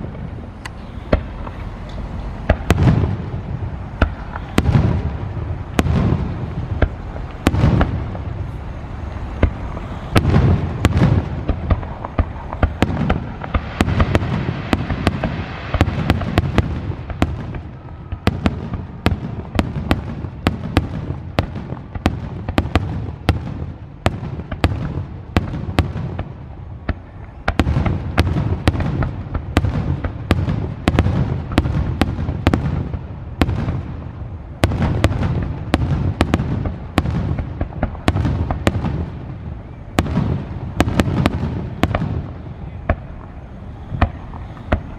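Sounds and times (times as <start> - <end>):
deep rumbling booms: 0.0 - 43.4
fireworks bangs and crackles: 0.0 - 44.9.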